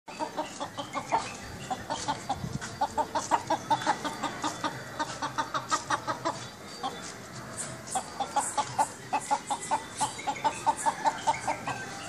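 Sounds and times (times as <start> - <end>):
chicken clucking: 0.1 - 12.0.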